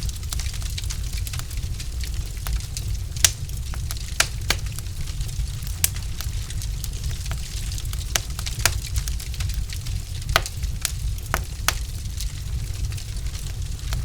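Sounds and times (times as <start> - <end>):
wood logs burning and crackling: 0.0 - 14.0.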